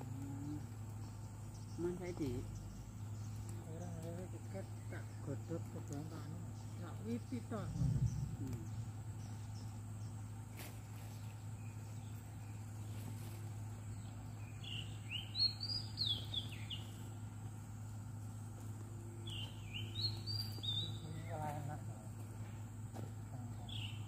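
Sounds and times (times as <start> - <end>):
low hum: 0.0 - 23.8.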